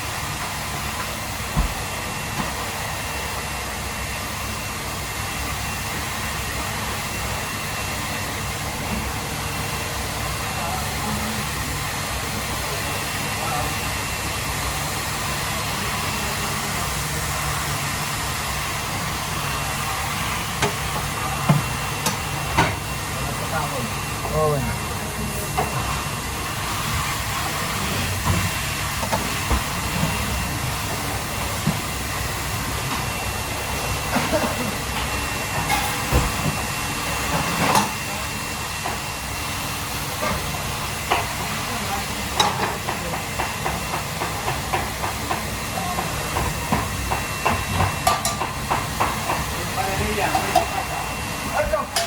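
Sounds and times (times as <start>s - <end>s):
hot oil sizzling and crackling: 0.0s - 52.0s.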